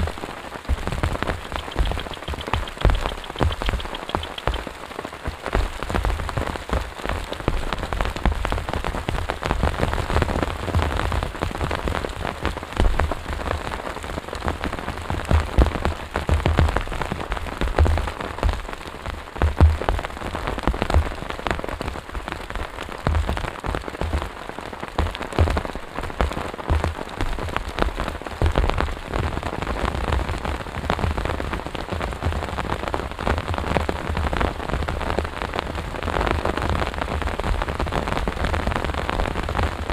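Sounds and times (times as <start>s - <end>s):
heavy rain falling: 0.0s - 39.9s
raindrops tapping and thudding: 0.0s - 39.9s.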